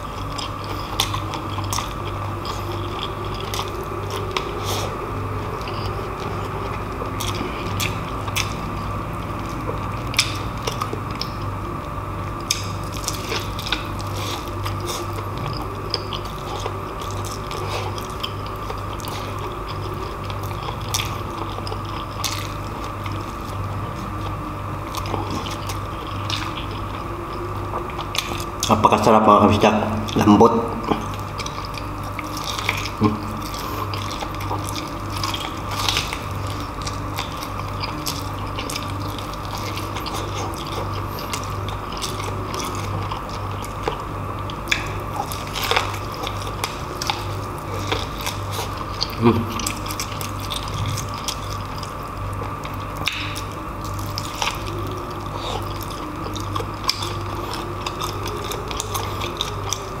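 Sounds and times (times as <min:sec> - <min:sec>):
wet chewing and lip-smacking: 0:00.0 - 0:28.8, 0:30.0 - 1:00.0
low hum: 0:00.0 - 1:00.0.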